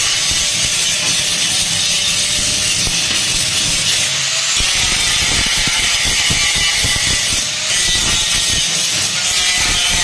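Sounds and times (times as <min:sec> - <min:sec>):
angle grinder grinding metal: 0:00.0 - 0:10.0.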